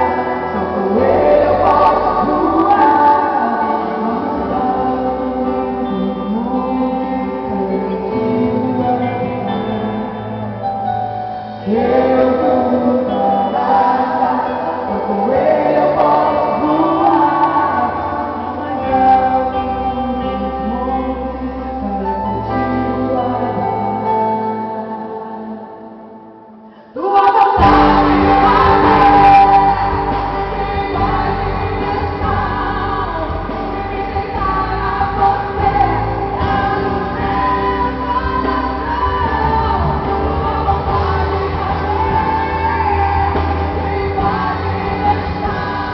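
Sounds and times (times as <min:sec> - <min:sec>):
voices singing a melody: 0:00.0 - 0:10.6, 0:11.6 - 0:25.9, 0:27.1 - 0:45.9.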